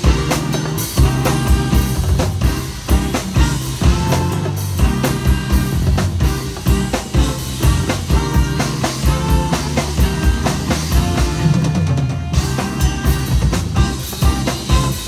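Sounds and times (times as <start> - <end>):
drum kit beat: 0.0 - 15.0
electric bass: 0.0 - 15.0
electric guitar: 0.0 - 15.0
saxophone: 0.0 - 15.0.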